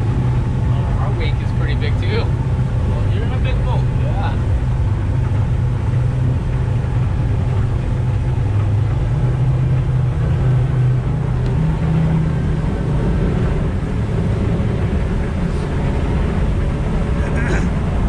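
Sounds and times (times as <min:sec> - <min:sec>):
outboard engines droning: 0:00.0 - 0:18.0
water wash: 0:00.0 - 0:18.0.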